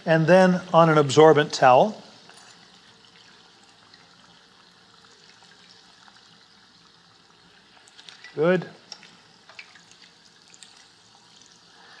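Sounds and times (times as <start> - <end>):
oil dripping into pan: 2.2 - 12.0.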